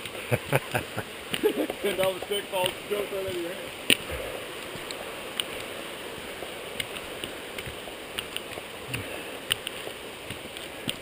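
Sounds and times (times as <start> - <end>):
footsteps on rock: 0.0 - 11.0
trekking poles tapping rock: 0.0 - 11.0.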